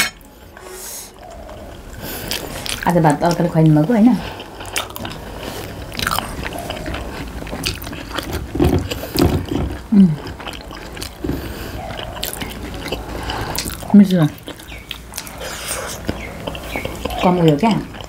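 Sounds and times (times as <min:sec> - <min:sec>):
people chewing: 0:00.2 - 0:18.0.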